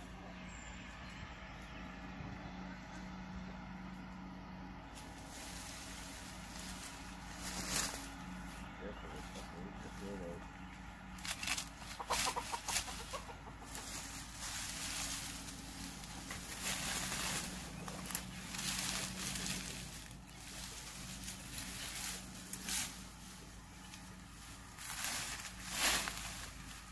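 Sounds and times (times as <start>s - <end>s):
chickens clucking and squawking: 0.0s - 26.9s
stick rustling through brush: 4.8s - 26.9s.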